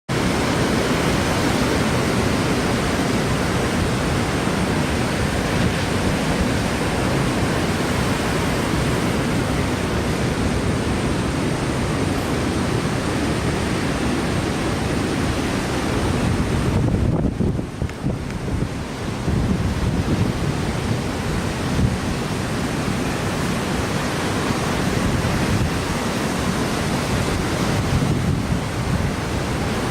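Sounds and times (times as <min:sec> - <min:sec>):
heavy surf: 0:00.1 - 0:29.9
strong wind on microphone: 0:00.2 - 0:29.9.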